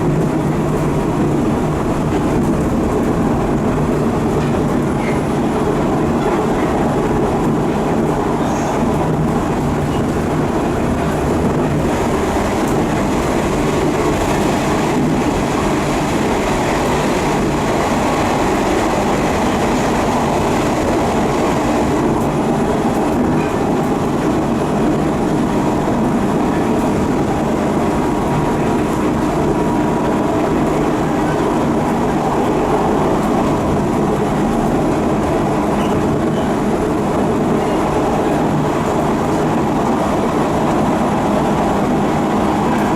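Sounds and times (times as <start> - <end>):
train wheels on rails: 0.0 - 42.9.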